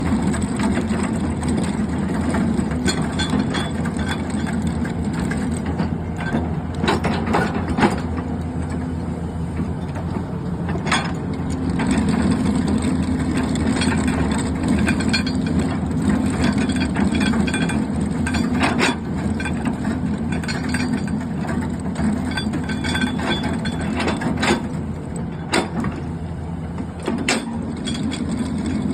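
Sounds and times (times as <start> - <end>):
excavator engine and hydraulic drone: 0.0 - 28.9.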